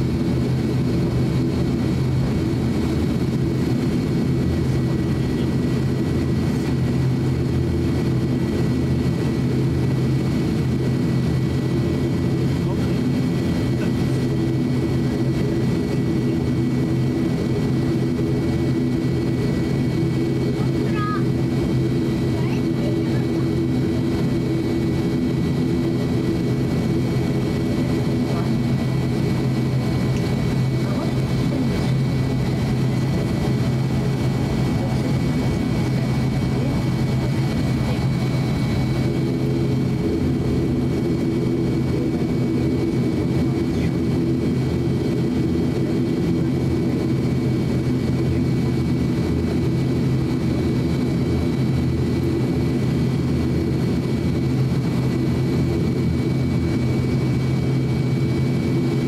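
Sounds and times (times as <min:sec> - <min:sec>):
high turbine whine: 0:00.0 - 0:59.0
propeller drone: 0:00.0 - 0:59.0.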